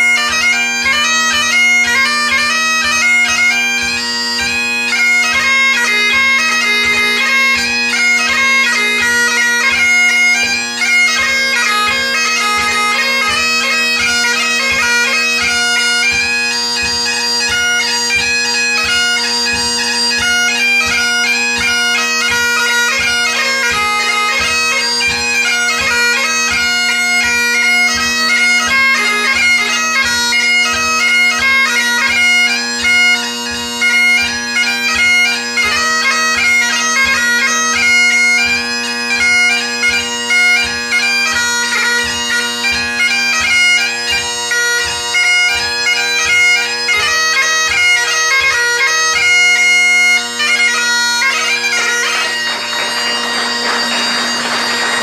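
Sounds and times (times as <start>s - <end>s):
bagpipe playing: 0.0s - 55.0s.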